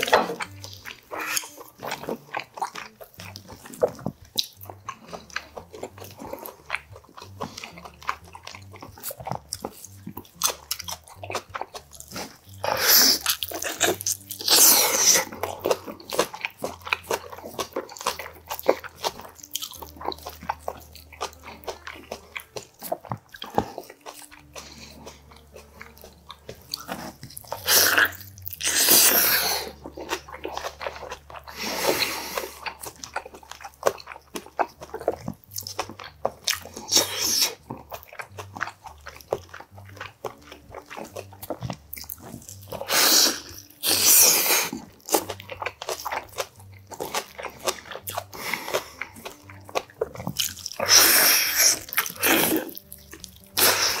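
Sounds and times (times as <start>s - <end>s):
wet chewing clicks: 0.0s - 54.0s.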